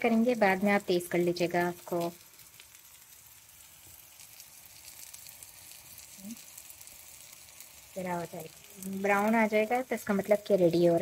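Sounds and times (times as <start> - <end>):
eggplant sizzling in oil: 0.0 - 11.0.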